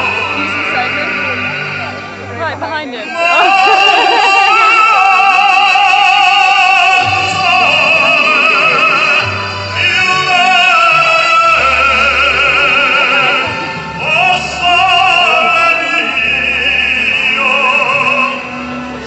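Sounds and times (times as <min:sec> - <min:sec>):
man singing operatically: 0:00.0 - 0:02.3, 0:03.0 - 0:19.0
instrumental accompaniment: 0:00.0 - 0:19.0.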